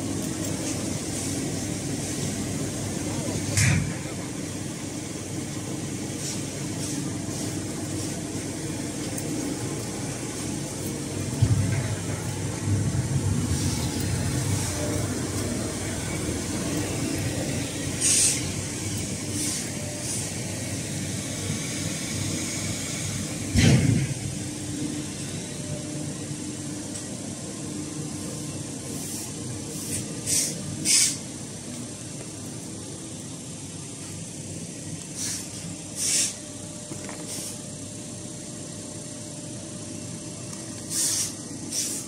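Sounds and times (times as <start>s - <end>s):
workshop machinery humming: 0.0s - 42.0s.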